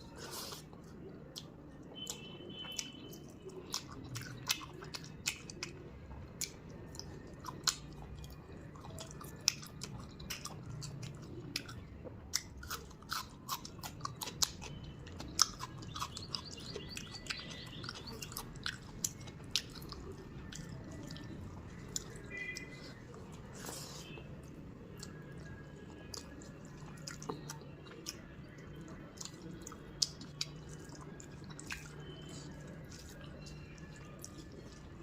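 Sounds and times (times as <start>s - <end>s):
chewing with mouth clicks: 0.0s - 35.0s
food crunch: 6.4s - 35.0s.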